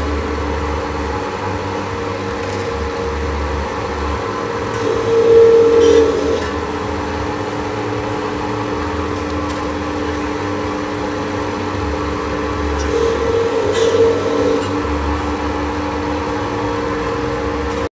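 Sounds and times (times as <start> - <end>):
higher machine tone: 0.0 - 17.9
wire stripping machine humming: 0.0 - 17.9.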